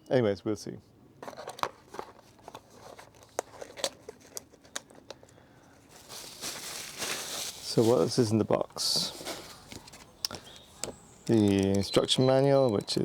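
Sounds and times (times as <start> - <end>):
packaging clicks and crinkles: 1.2 - 13.0
packaging rustling: 1.2 - 13.0.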